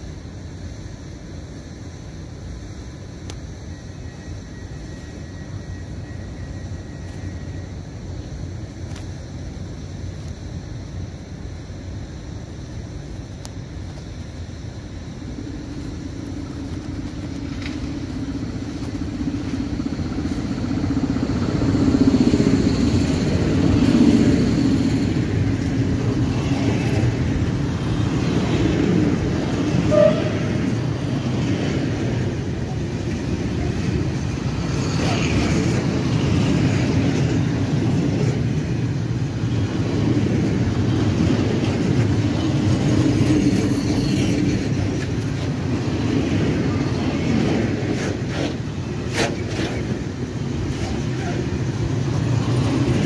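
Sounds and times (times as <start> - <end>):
electric locomotive passing: 0.0 - 53.0
freight wagons rumbling on rails: 0.0 - 53.0.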